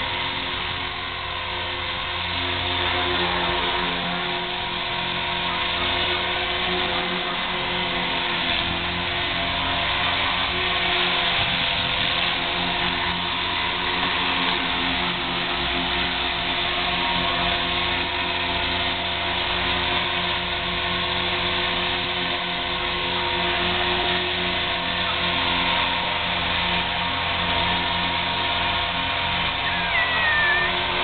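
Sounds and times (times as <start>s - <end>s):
rc helicopter hovering: 0.0s - 31.0s.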